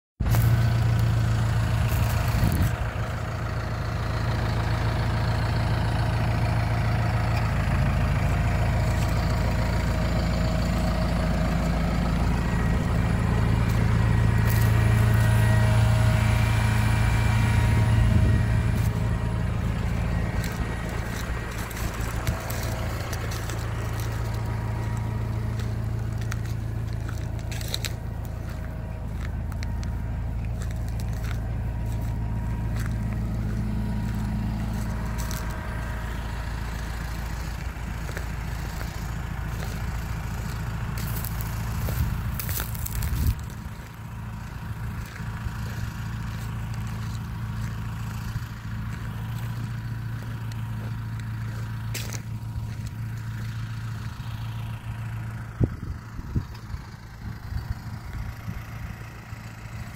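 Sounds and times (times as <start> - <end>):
tractor diesel engine droning: 0.2 - 59.9.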